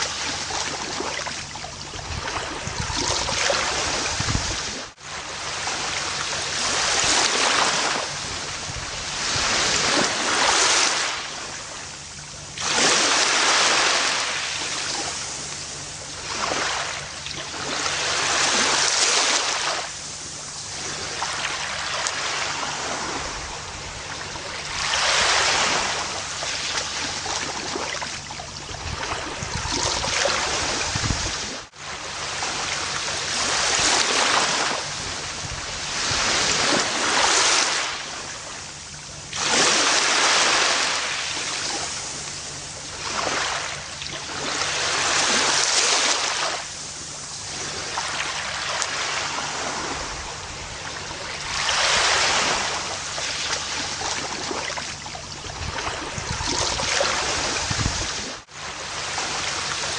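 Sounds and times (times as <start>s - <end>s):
ocean waves washing onto a beach: 0.0s - 59.9s.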